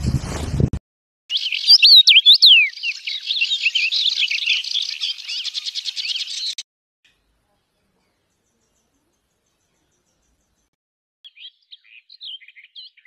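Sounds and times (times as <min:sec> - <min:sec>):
finch singing: 0:01.3 - 0:06.6, 0:07.7 - 0:13.0.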